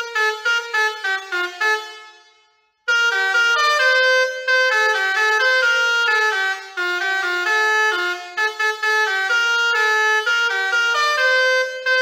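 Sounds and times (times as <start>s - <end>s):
musical air horn tune: 0.0s - 12.0s.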